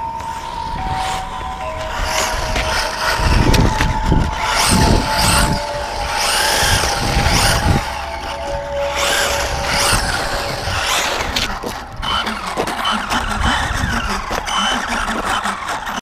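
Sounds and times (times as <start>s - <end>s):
rc truck motor whine: 0.0s - 16.0s.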